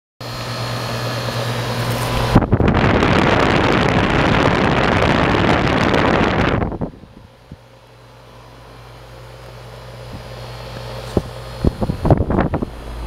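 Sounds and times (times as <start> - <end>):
air conditioner humming: 0.2 - 13.0
fan air rushing: 0.2 - 13.0.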